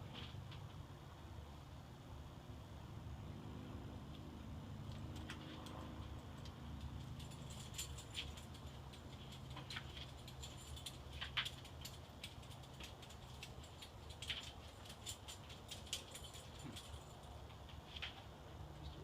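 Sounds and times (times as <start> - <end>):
ceiling fan ticks and rattles: 0.0 - 3.0, 3.7 - 19.0.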